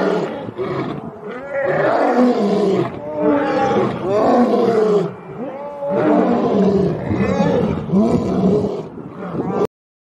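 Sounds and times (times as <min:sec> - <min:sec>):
lions roaring: 0:00.0 - 0:09.7.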